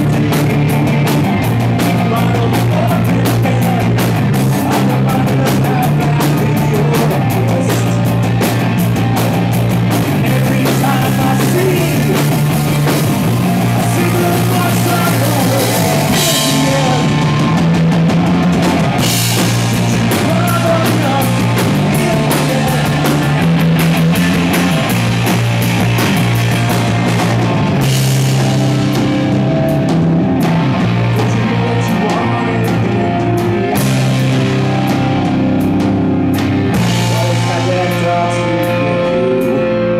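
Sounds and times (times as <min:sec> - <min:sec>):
punk rock band playing: 0:00.0 - 0:39.9.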